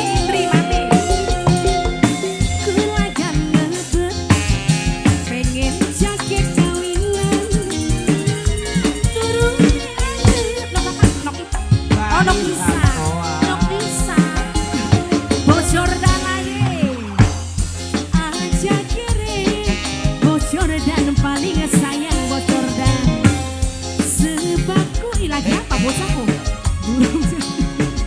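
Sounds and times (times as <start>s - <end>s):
drum and bass beat: 0.0s - 28.0s
live band music: 0.0s - 28.0s.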